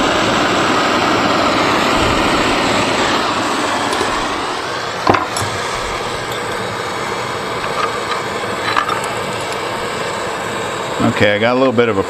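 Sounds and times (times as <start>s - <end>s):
gas torch roaring: 0.0s - 12.0s.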